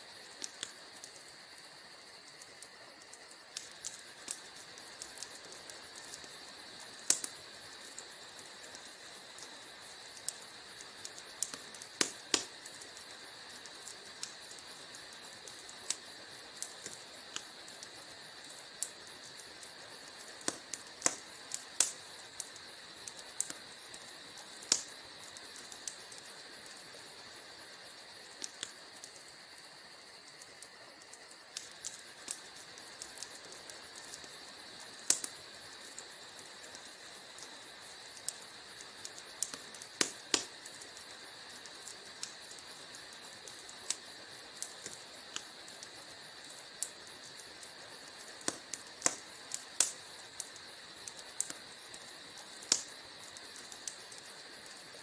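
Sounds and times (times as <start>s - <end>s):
faint steady hiss: 0.0s - 55.0s
wood fire crackling and popping: 0.0s - 55.0s.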